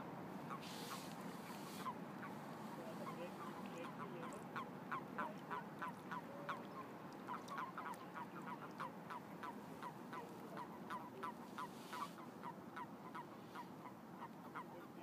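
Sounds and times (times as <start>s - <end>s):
toads croaking in chorus: 0.4s - 15.0s.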